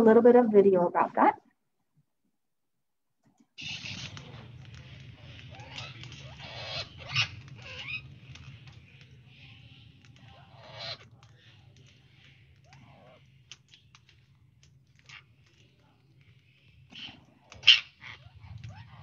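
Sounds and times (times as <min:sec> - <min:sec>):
parrots squawking and chattering: 0:03.6 - 0:19.0.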